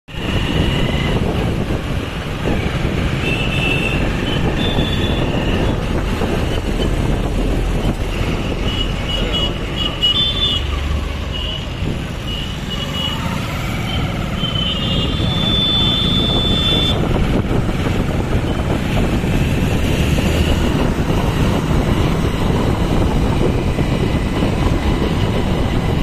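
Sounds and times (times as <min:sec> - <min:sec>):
rumble of engines and tyres: 0:00.1 - 0:26.0.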